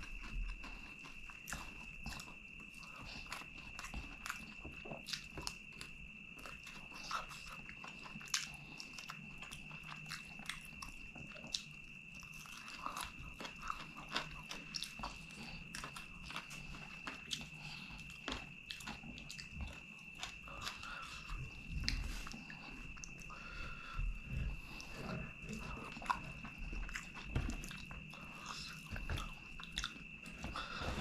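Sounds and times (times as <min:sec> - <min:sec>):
wet chewing and mouth smacks: 0:00.0 - 0:23.6, 0:24.5 - 0:30.8.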